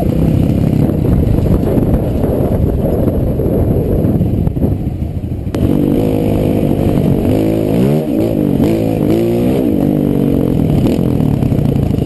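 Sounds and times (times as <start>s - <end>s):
motorcycle engine accelerating: 0.0s - 12.0s
wind on microphone: 0.0s - 12.0s.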